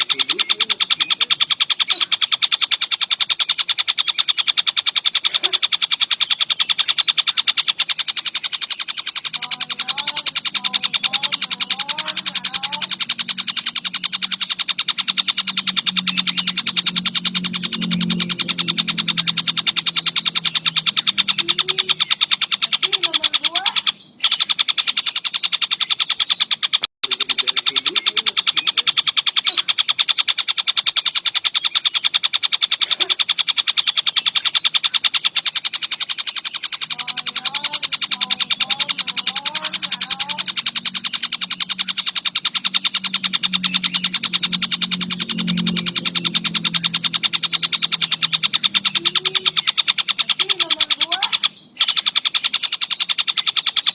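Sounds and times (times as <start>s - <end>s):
kingfisher calling harsh notes: 0.0s - 53.9s.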